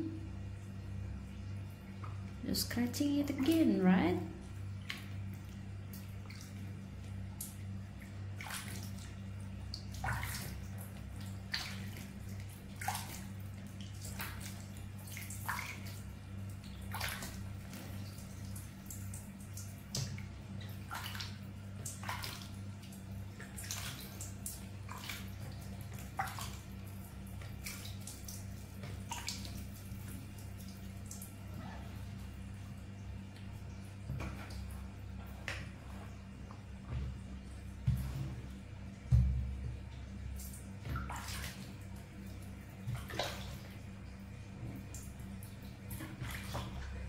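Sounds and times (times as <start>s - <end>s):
steady low hum: 0.0s - 47.0s
water splashing and dripping: 1.3s - 47.0s.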